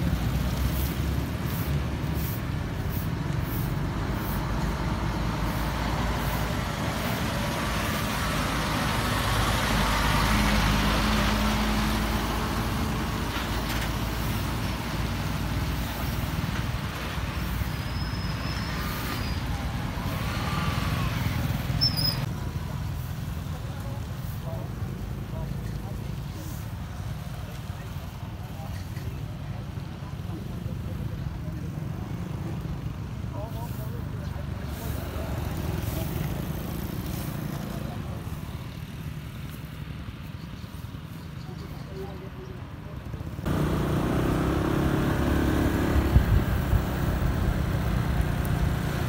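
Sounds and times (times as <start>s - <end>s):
heavy diesel trucks driving past: 0.0s - 49.0s
motorbikes driving past: 0.0s - 49.0s.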